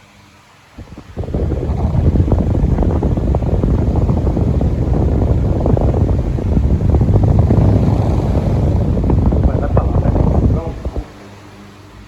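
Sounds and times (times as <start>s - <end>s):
electric fan running: 0.0s - 12.0s
wind buffeting microphone: 0.8s - 11.2s.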